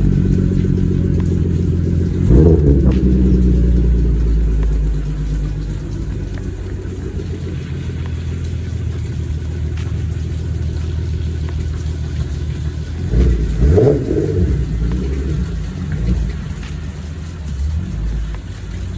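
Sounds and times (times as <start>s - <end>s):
car engine running and revving: 0.0s - 18.9s.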